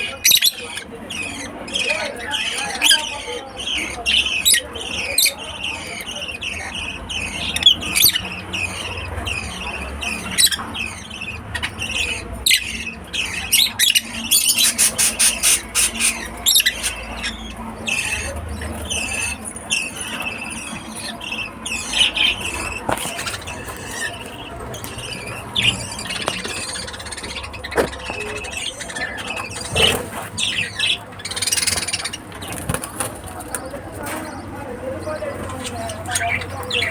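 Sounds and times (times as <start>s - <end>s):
lovebirds chirping and squeaking: 0.0s - 36.9s.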